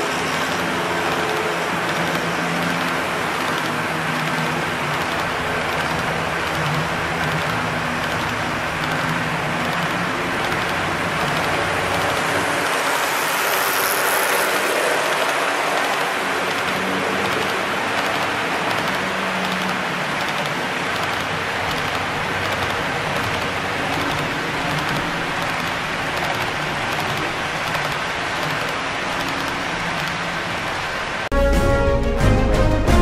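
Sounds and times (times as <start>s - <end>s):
model train wheels rattling on rails: 0.0s - 30.4s.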